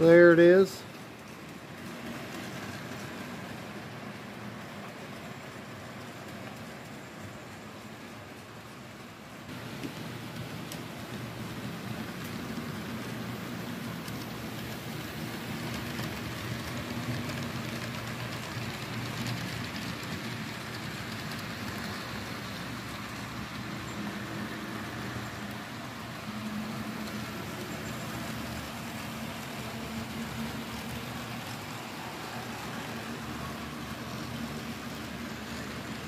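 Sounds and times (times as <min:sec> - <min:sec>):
fine rain-like clicking: 0:00.0 - 0:36.0
model train wheels whirring on rail: 0:00.0 - 0:36.0.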